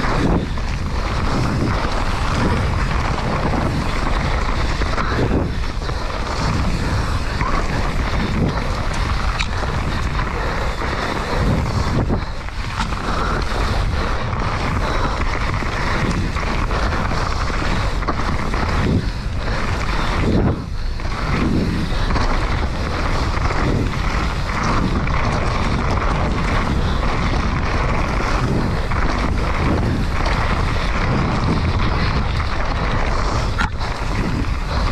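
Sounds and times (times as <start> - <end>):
bike tyres rolling over dirt: 0.0 - 34.9
wind rushing on microphone: 0.0 - 34.9.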